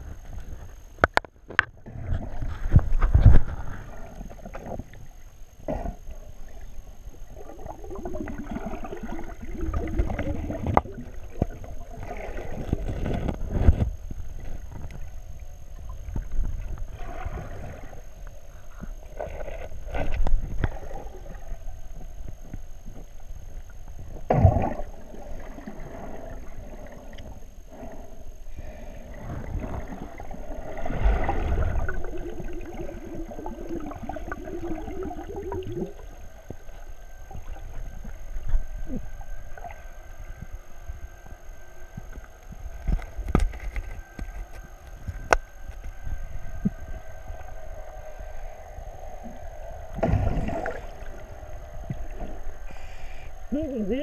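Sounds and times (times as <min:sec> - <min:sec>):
underwater swirling rumble: 0:00.0 - 0:54.0.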